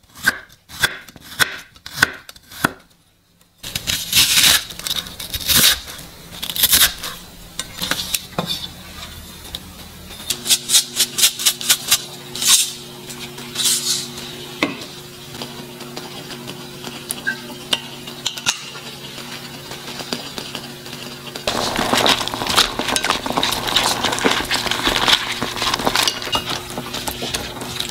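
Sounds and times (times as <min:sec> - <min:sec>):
induction cooktop hum: 0:00.0 - 0:27.9.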